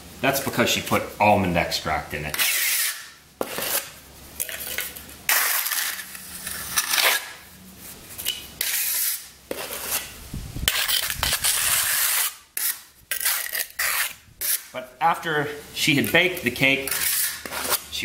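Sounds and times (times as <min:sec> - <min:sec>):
trowel scraping wet concrete: 0:02.2 - 0:15.3, 0:15.9 - 0:18.0.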